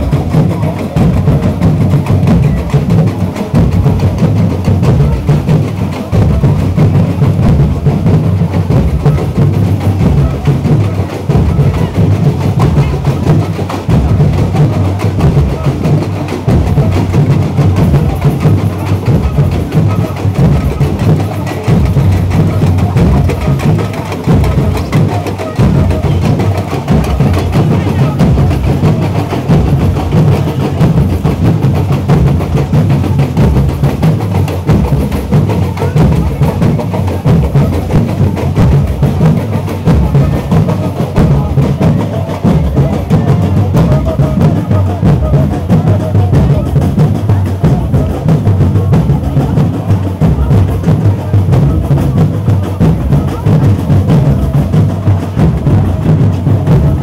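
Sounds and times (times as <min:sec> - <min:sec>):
bass drums beating: 0:00.0 - 0:57.0.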